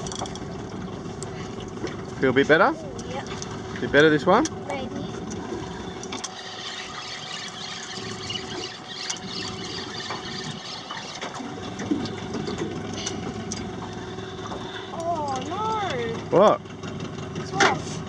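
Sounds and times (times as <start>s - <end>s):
outboard motor idling: 0.0s - 18.0s
water lapping against boat hull: 0.0s - 18.0s.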